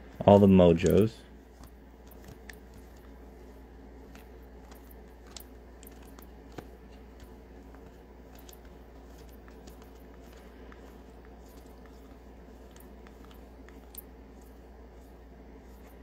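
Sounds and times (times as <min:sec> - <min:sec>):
plastic-sleeved cards clicking and rustling: 0:00.0 - 0:16.0
steady low hum: 0:00.0 - 0:16.0.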